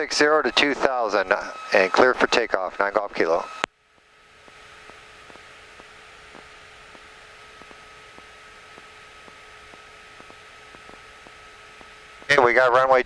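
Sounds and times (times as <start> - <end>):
radio hiss and hum: 0.0 - 13.0.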